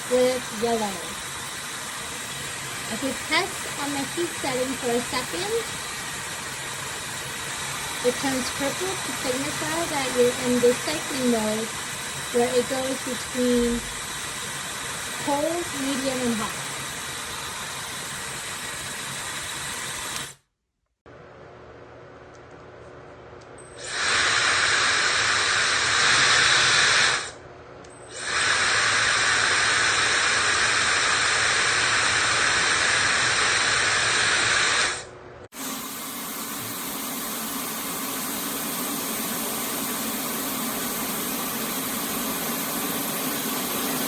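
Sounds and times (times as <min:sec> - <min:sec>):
hair dryer blowing air: 0:00.0 - 0:20.4, 0:23.8 - 0:27.4, 0:28.1 - 0:44.0.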